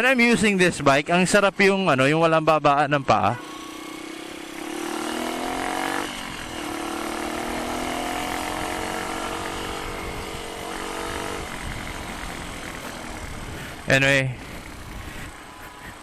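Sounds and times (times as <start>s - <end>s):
motorcycle engine revving: 3.0s - 16.0s.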